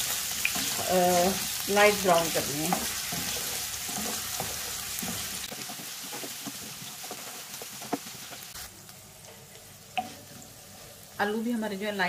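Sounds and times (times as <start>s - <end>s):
potatoes sizzling in hot oil: 0.0s - 12.0s.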